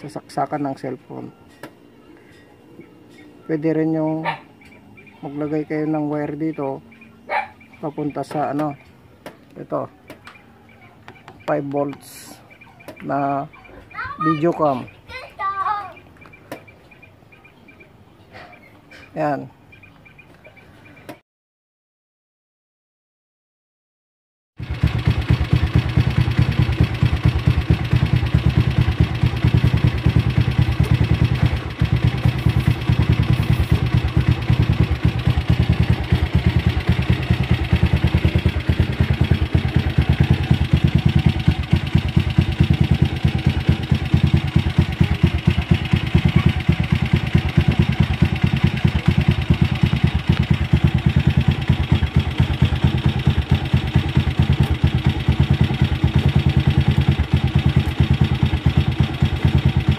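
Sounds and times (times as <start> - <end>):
motorcycle engine idling: 0.0 - 21.2, 24.6 - 59.9.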